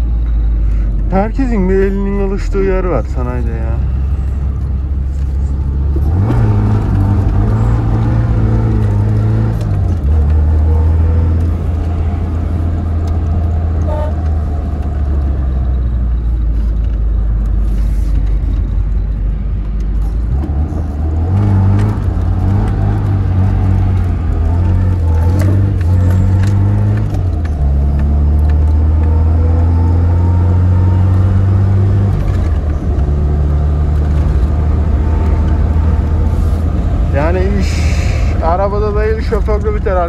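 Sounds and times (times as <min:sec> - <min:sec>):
car engine and exhaust drone: 0:00.0 - 0:40.0.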